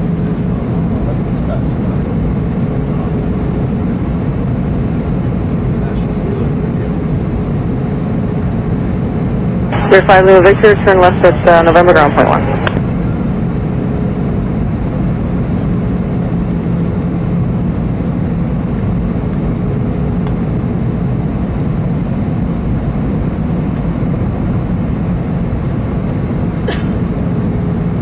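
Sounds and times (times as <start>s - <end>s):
aircraft cabin engine rush: 0.0s - 28.0s.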